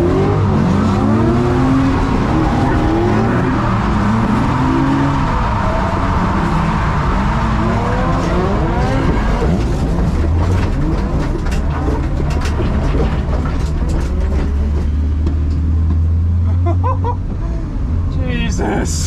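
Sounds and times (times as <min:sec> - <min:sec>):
car engines revving: 0:00.0 - 0:19.0
deep engine drone: 0:00.0 - 0:19.0
tire noise on wet track: 0:00.0 - 0:19.0.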